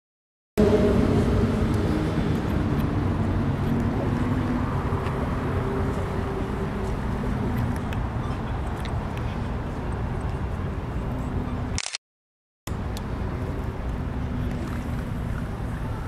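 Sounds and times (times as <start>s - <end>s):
traffic noise: 0.6s - 12.0s, 12.7s - 16.0s.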